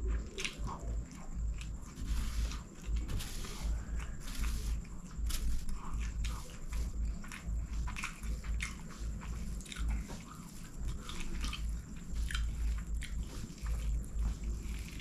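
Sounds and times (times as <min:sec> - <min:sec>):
fingers rustling on paper: 0:00.0 - 0:15.0.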